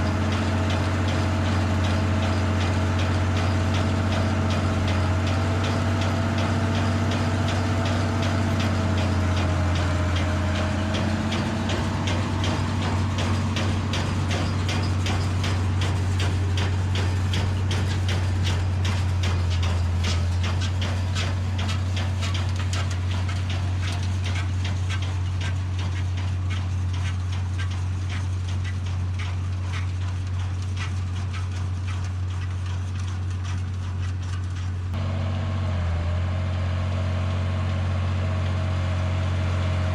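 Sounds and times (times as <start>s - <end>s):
fast regular clicking clatter: 0.0s - 35.0s
tractor diesel engine running: 0.0s - 39.9s.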